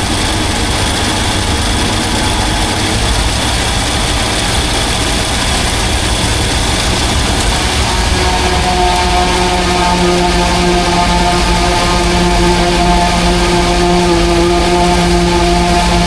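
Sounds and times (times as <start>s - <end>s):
faint steady tones: 0.0s - 16.0s
tractor diesel engine rumble: 0.0s - 16.0s.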